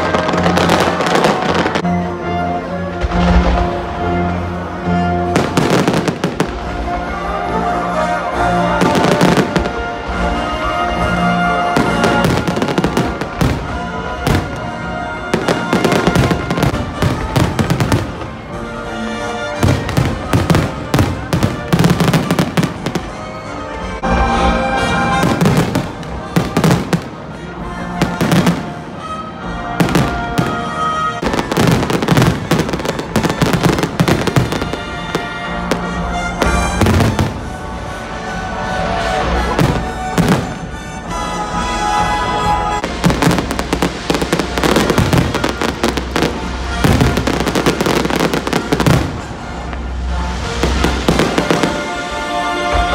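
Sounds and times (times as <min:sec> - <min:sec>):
music playing: 0:00.0 - 0:52.9.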